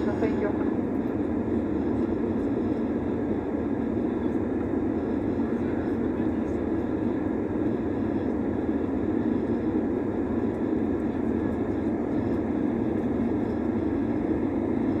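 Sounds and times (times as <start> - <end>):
airplane cabin engine hum: 0.0 - 15.0.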